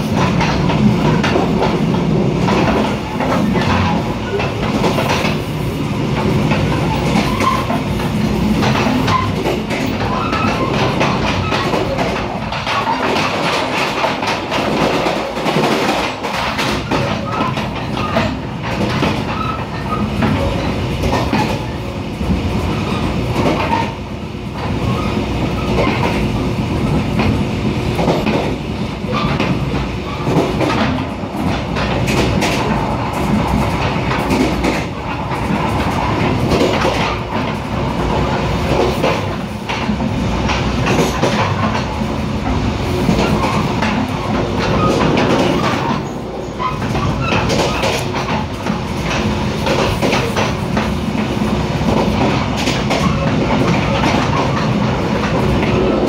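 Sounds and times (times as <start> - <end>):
track clicks and clacks: 0.0 - 56.0
train wheels rumbling on rail: 0.0 - 56.0.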